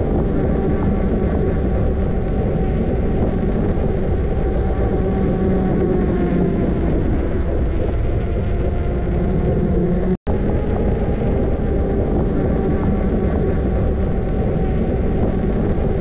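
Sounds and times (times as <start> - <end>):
faint steady hum: 0.0 - 16.0
wind rushing over microphone: 0.0 - 16.0.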